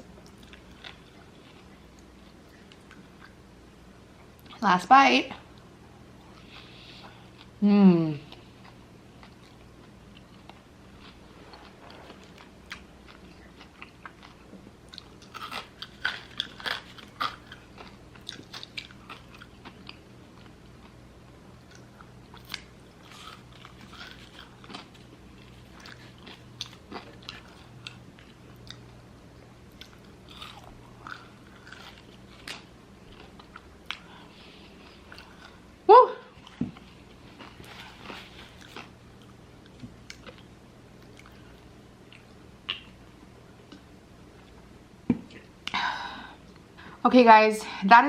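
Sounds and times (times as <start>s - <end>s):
person chewing food: 0.1s - 3.4s, 5.5s - 7.6s, 8.3s - 35.7s, 36.3s - 45.8s.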